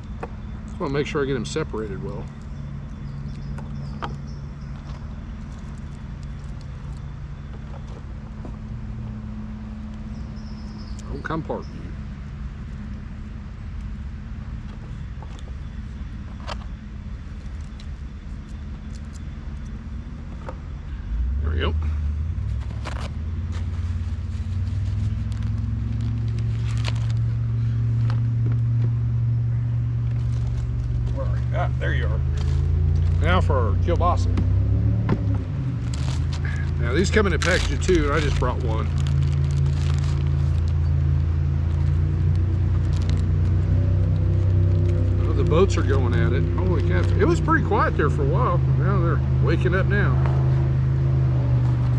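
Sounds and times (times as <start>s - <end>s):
engine droning low: 0.0s - 51.9s.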